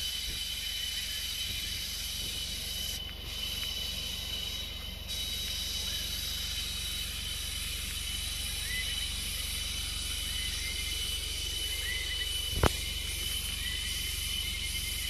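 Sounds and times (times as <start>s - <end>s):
bird chirps: 0.0s - 15.0s
insects droning: 0.0s - 15.0s
low steady hum: 0.0s - 15.0s.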